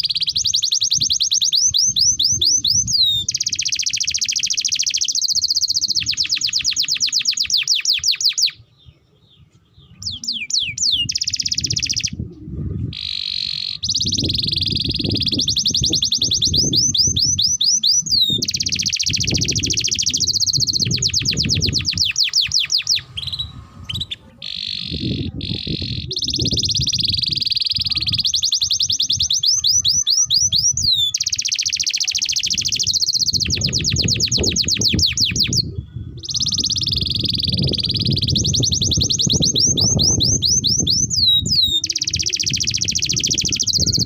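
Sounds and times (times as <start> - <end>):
canary singing trills: 0.0 - 44.0.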